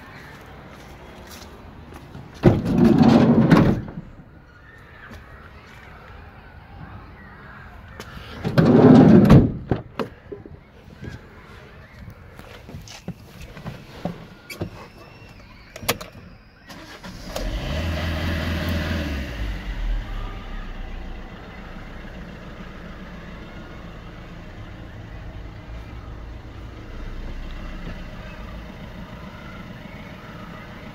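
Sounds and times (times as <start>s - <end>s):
van engine cranking and idling: 0.0s - 30.9s.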